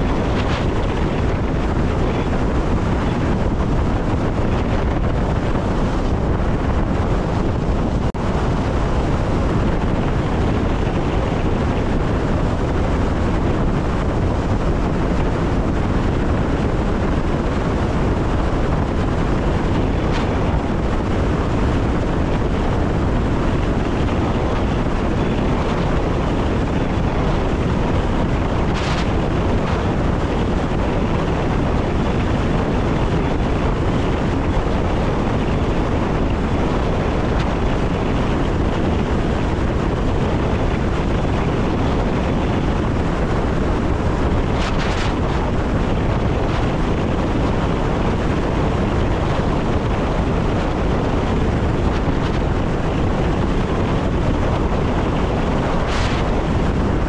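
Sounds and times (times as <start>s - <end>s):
train wheels rumbling on rail: 0.0s - 57.0s
wind noise: 0.0s - 57.0s.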